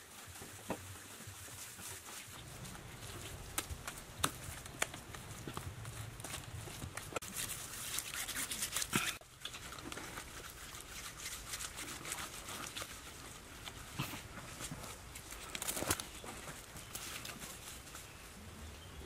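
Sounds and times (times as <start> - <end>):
hands scraping and slapping wet mortar: 0.0 - 18.2.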